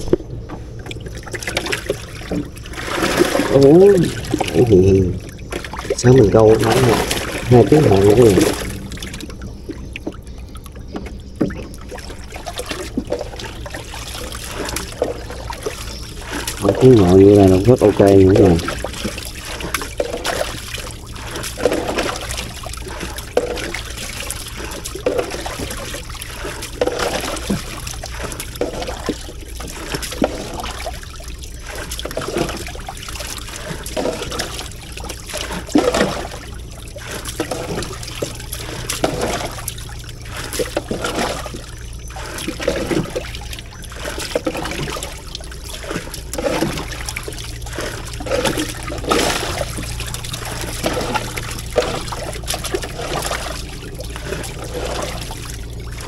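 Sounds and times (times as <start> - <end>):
water scooped and splashing: 0.0 - 56.0.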